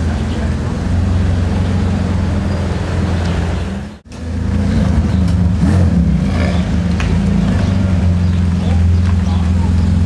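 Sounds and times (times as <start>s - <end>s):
car engine at low revs: 0.1s - 10.0s.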